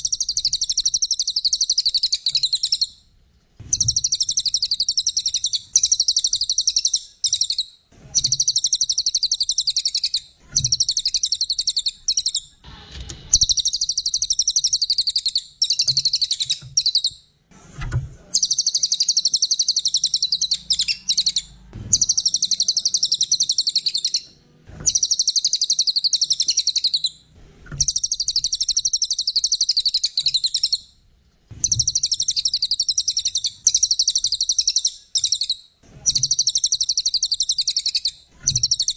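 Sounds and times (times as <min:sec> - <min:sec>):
bird singing rapid high trill: 0:00.0 - 0:03.0, 0:03.7 - 0:12.5, 0:13.3 - 0:17.2, 0:18.4 - 0:24.3, 0:24.9 - 0:27.2, 0:27.8 - 0:30.8, 0:31.6 - 0:38.9.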